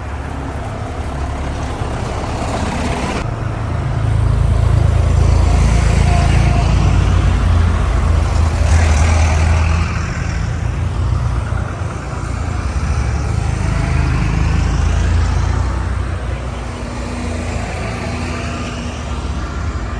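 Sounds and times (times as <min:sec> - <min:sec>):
tractor engine droning: 0:00.0 - 0:19.9.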